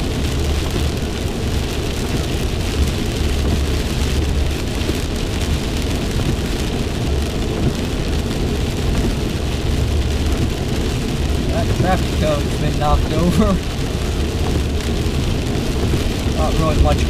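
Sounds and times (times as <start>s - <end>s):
car tyres and engine rumble: 0.0s - 17.0s
heavy rain on car roof: 0.0s - 17.0s.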